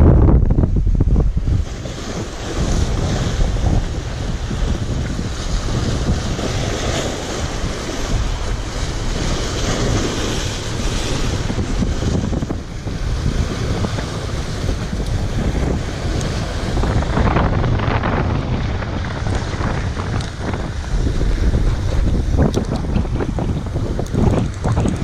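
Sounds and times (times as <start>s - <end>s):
wind buffeting microphone: 0.0s - 25.0s
sea waves breaking on concrete: 0.5s - 25.0s.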